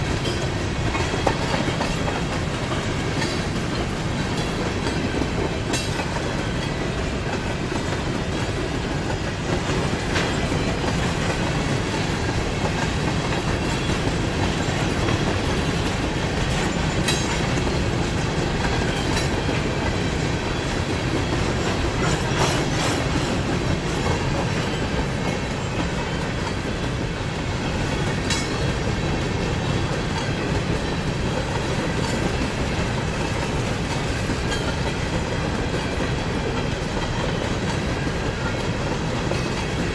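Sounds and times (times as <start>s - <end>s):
clickety-clack over rail joints: 0.0s - 39.9s
freight train wheels rumbling: 0.0s - 39.9s.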